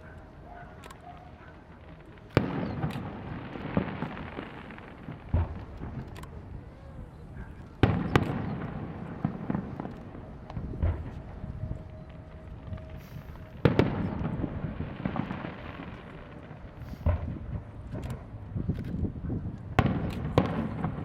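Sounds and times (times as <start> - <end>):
crackling echoing rumble: 0.0 - 21.0
firework shells bursting: 1.9 - 6.6, 7.2 - 18.4, 19.7 - 21.0.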